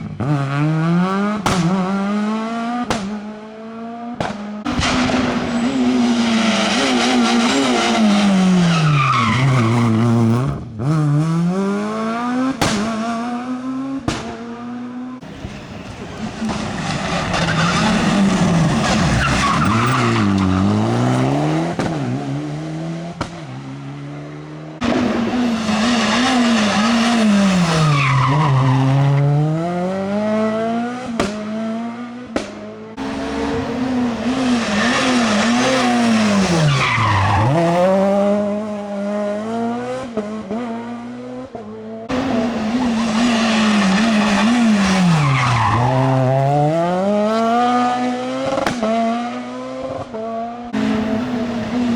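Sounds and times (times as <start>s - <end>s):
rally car engines passing: 0.0s - 51.9s.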